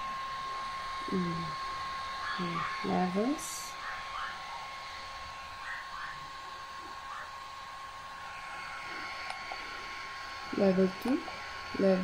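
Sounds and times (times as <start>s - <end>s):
cooling fan whirring: 0.0s - 12.0s.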